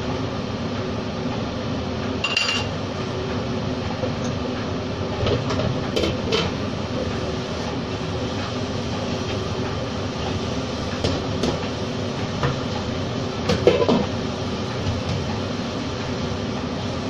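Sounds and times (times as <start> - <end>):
steady rumbling kitchen noise: 0.0 - 17.0.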